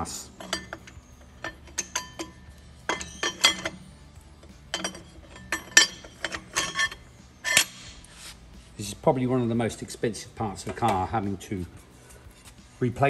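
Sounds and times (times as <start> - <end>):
metal clutch plates clinking: 0.0 - 8.1, 8.8 - 11.7.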